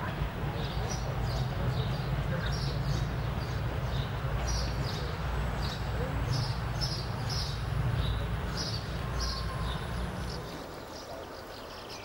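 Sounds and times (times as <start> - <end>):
train diesel engine rumble: 0.0 - 11.3
small birds chirping: 0.6 - 12.0.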